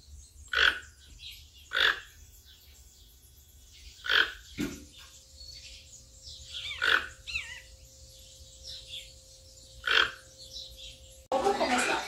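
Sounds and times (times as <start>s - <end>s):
toucan croaking calls: 0.4s - 2.7s, 3.8s - 12.0s
small bird warbling chirp: 0.4s - 2.8s, 3.8s - 11.2s.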